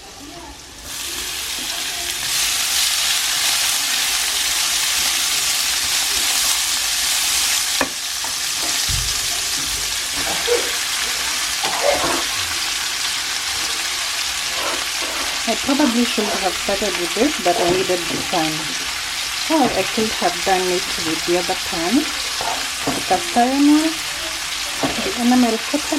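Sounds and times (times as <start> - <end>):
onions sizzling in a hot pan: 0.0 - 25.9.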